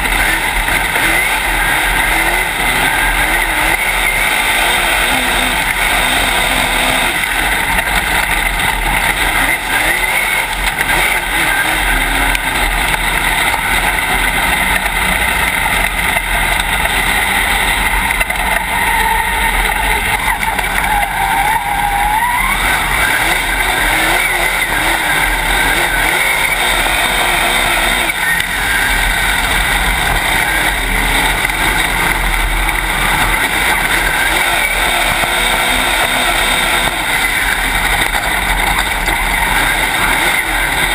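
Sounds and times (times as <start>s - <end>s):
race car engine running hard: 0.0s - 40.9s
road noise: 0.0s - 40.9s.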